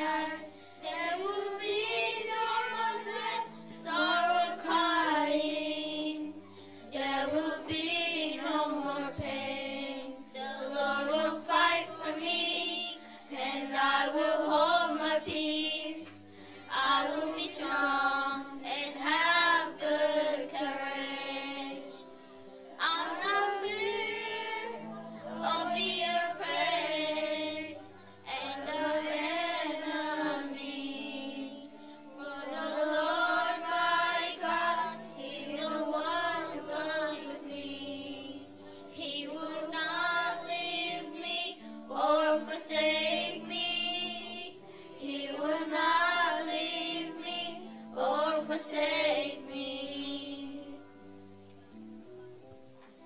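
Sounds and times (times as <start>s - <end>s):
group of voices singing: 0.0s - 22.1s, 22.8s - 50.9s.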